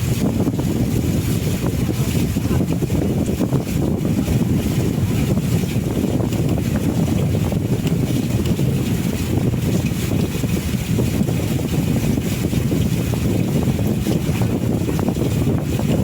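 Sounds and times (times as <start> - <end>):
boat engine rumble: 0.0 - 16.0
wind buffeting microphone: 0.0 - 16.0.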